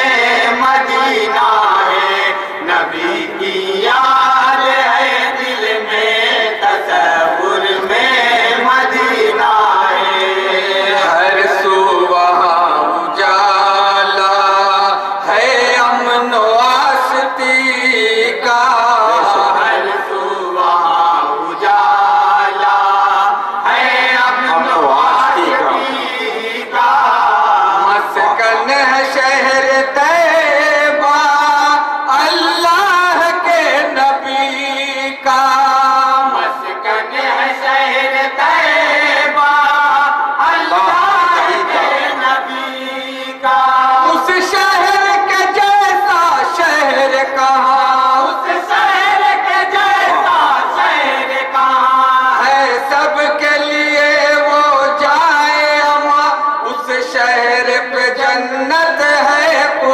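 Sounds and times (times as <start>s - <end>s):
men singing in unison: 0.0s - 59.9s.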